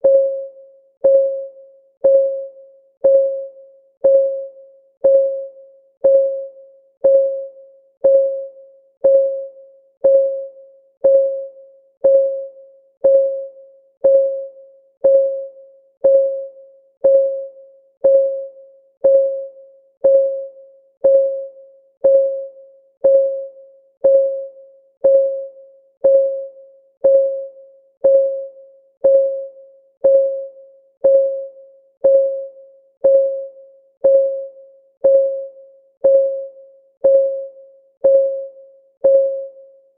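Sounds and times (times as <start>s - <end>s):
countdown timer ticking: 1.0s - 39.6s.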